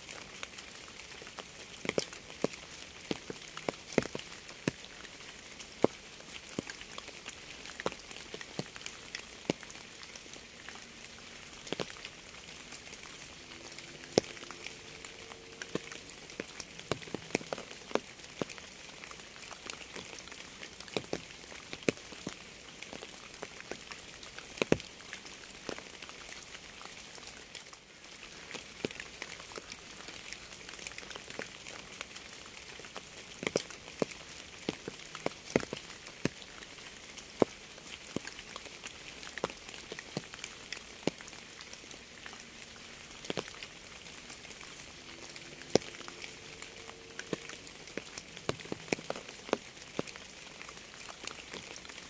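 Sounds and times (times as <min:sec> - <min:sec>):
raindrops ticking on hard surface: 0:00.0 - 0:52.0
steady rain hiss: 0:00.0 - 0:52.0.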